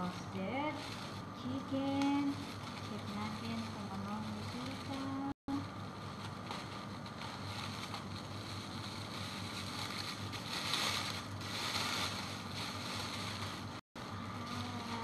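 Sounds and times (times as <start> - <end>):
plastic bag crinkling: 0.0 - 15.0
steady low hum: 0.0 - 15.0.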